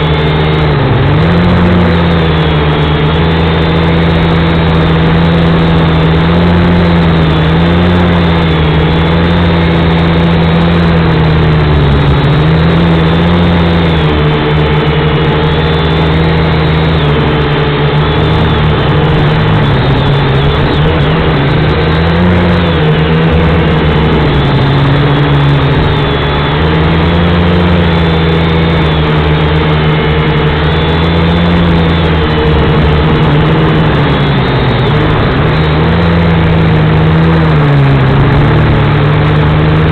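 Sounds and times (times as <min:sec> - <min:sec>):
toy drone buzzing whine: 0:00.0 - 0:39.9.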